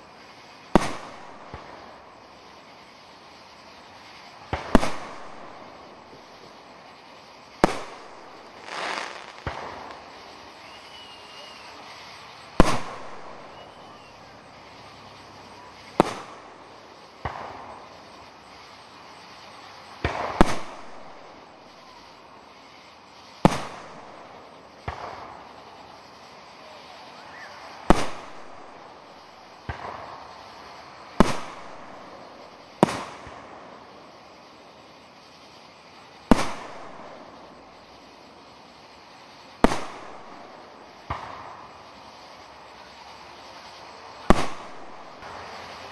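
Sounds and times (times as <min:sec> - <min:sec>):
fireworks bursting with echoing bangs: 0:00.0 - 0:45.9.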